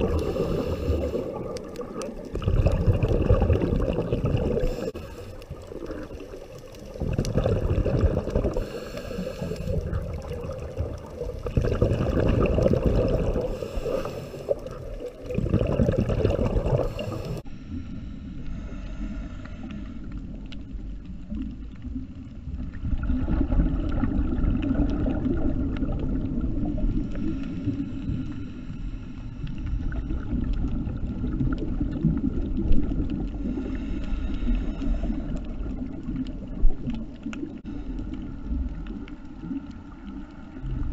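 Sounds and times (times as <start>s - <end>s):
dull underwater rumble: 0.0s - 40.9s
regulator bubbles rumbling underwater: 0.0s - 40.9s.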